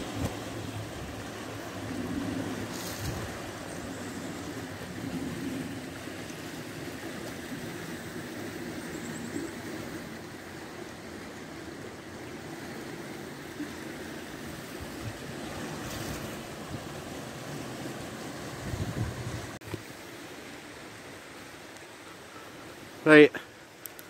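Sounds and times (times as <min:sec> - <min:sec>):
water rushing over rocks: 0:00.0 - 0:08.8, 0:09.5 - 0:22.0.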